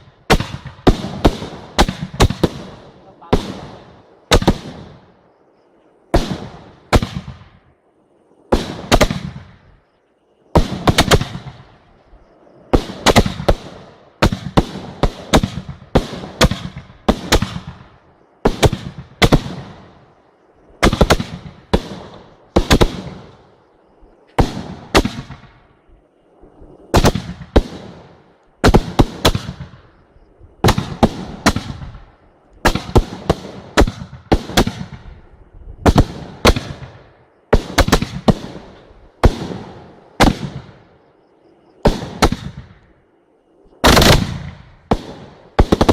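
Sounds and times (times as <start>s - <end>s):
aerial fireworks bursting: 0.0s - 5.2s, 6.1s - 9.9s, 10.5s - 20.1s, 20.7s - 23.6s, 24.3s - 25.9s, 26.5s - 40.9s, 41.8s - 42.8s, 43.7s - 45.9s.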